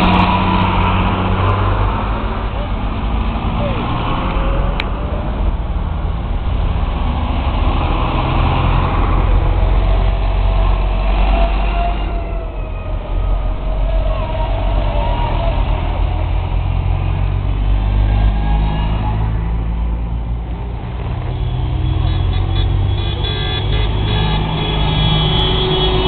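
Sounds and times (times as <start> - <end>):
tractors driving past: 0.0 - 26.0.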